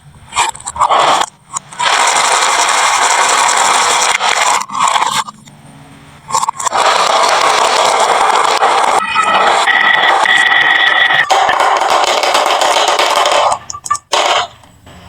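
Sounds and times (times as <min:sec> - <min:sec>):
marbles rolling on wooden track: 0:01.1 - 0:05.2, 0:06.3 - 0:14.5.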